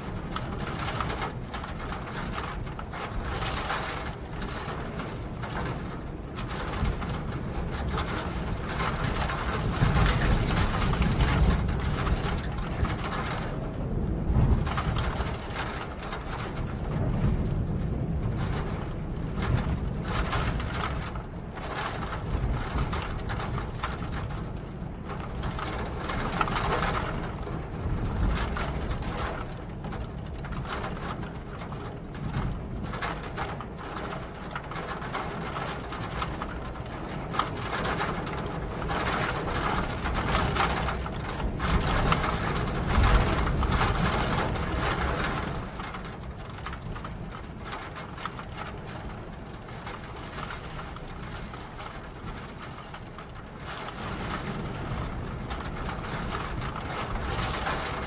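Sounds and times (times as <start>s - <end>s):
rain pattering and dripping: 0.0s - 58.0s.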